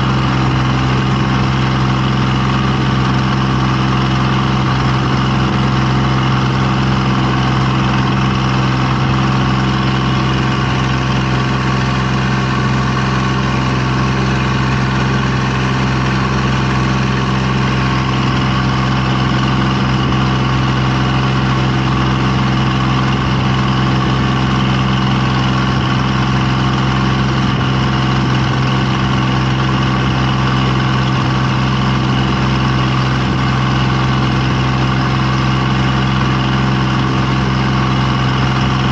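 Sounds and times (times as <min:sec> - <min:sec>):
steady engine-like drone: 0:00.0 - 0:38.9.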